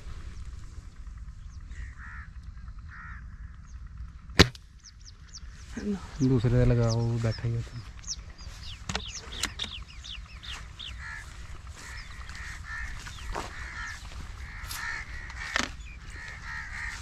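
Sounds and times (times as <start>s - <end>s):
birds chattering: 0.0s - 17.0s.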